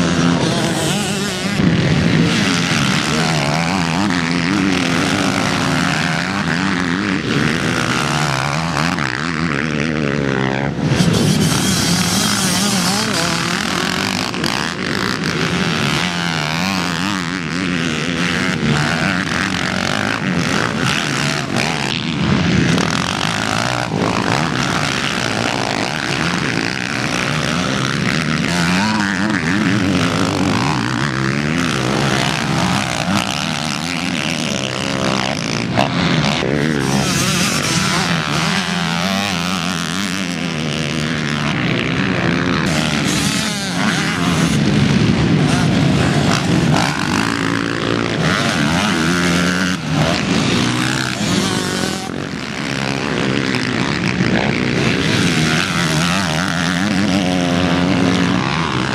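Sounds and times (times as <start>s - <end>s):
dirt bike engines revving: 0.0s - 58.9s.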